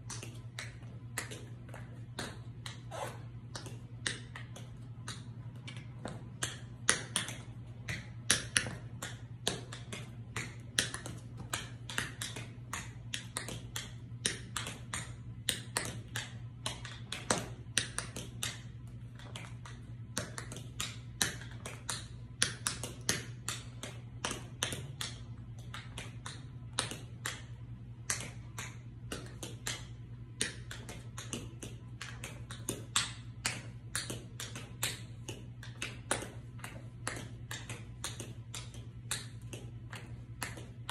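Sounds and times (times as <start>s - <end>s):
tap shoes on tiled floor: 0.1s - 40.9s.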